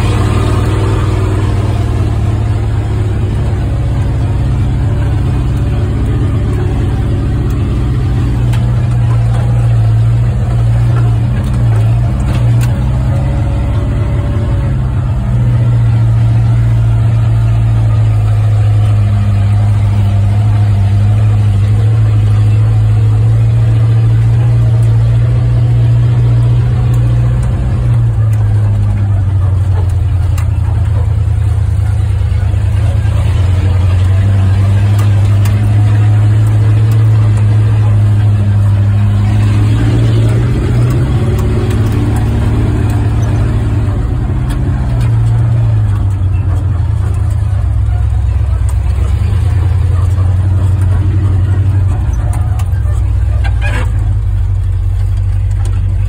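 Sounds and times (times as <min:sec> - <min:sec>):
truck engine humming: 0:00.0 - 0:56.0.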